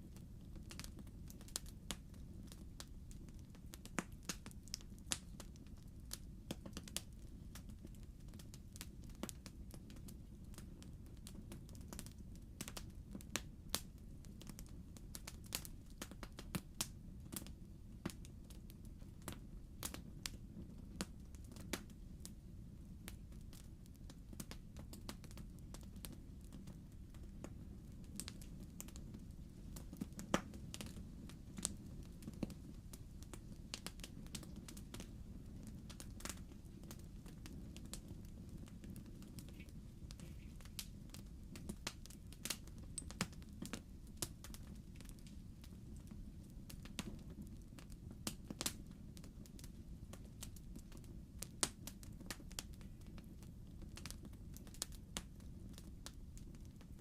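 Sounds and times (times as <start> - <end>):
low rush of flames: 0.0 - 56.9
burning logs popping and snapping: 0.1 - 22.0, 23.0 - 57.0.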